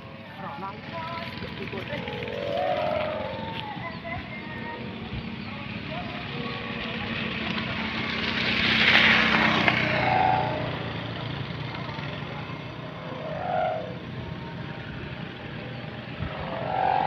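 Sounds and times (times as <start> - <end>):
kite hummer droning: 0.0 - 17.0.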